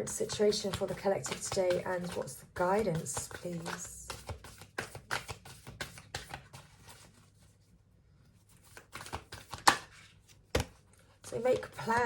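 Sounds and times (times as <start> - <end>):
cards being shuffled: 0.6 - 7.3, 8.5 - 12.0.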